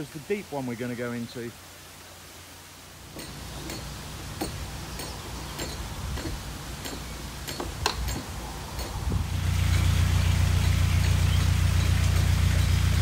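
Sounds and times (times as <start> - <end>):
rushing water noise: 0.0 - 13.0.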